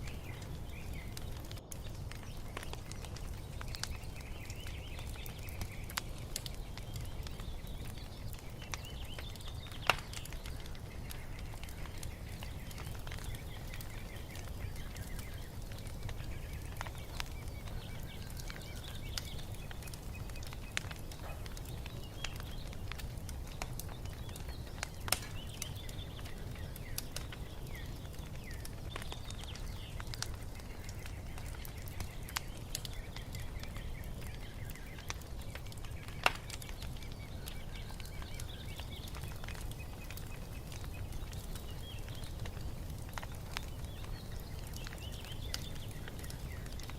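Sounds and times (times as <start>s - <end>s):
birds chirping faintly: 0.0s - 46.9s
wood fire crackling: 0.0s - 46.9s.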